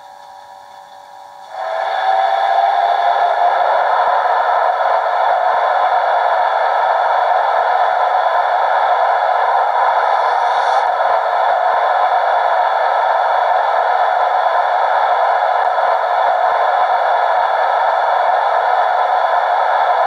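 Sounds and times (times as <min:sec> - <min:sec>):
electric locomotive running sounds: 0:00.0 - 0:20.0.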